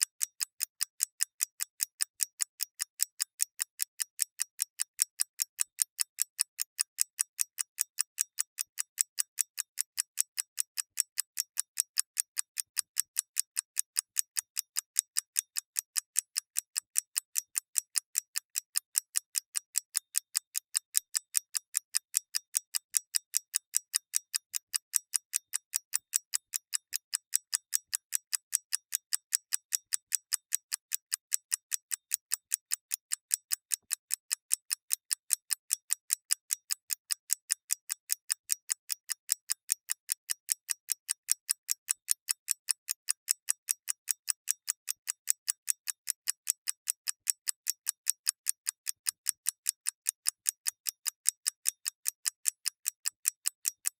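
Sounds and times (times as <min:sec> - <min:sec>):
mechanical clock ticking: 0:00.0 - 0:54.0.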